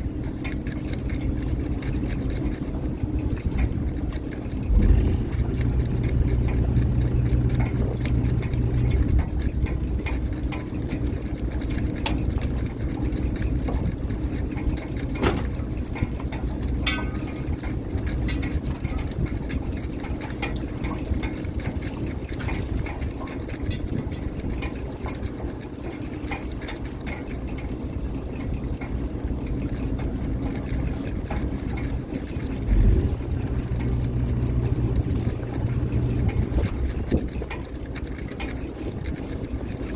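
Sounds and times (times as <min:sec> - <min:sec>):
boat engine running: 0:00.0 - 0:39.9
knocks and clatter: 0:00.6 - 0:39.9.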